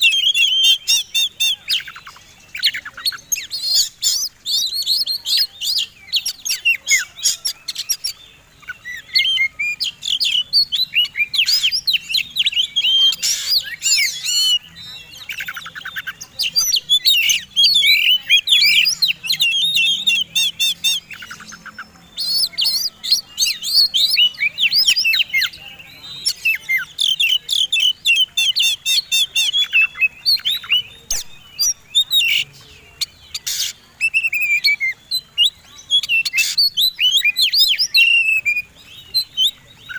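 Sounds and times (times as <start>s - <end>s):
songbird singing chirps and whistles: 0.0s - 39.9s.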